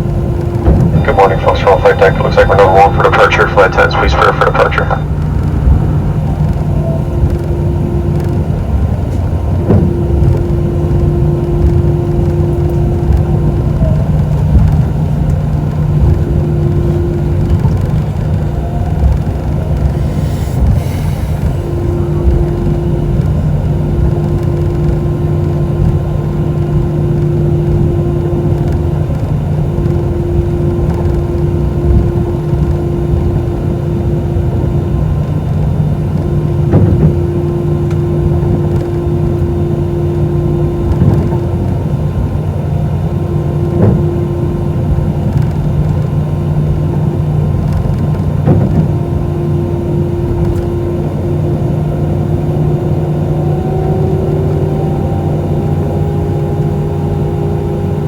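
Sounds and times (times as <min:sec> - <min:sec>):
aircraft engine hum: 0:00.0 - 0:58.0.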